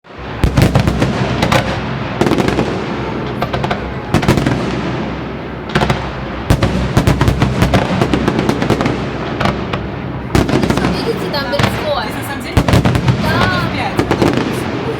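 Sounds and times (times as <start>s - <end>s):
fireworks bangs with echo: 0.1s - 14.9s.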